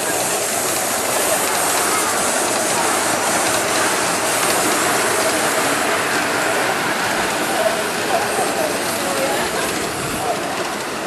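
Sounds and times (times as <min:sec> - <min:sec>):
hiss of steam: 0:00.0 - 0:11.0
miniature steam locomotive passing: 0:00.0 - 0:11.0.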